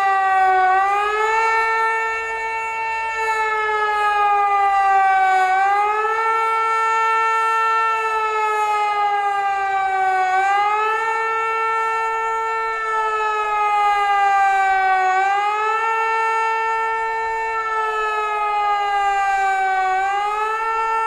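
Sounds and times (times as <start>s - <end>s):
rising and falling siren: 0.0s - 21.0s.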